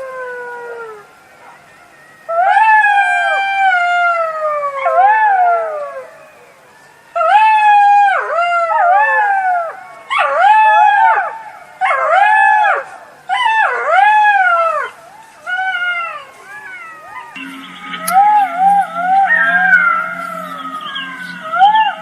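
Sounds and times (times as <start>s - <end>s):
jackals howling in chorus: 0.0s - 22.0s.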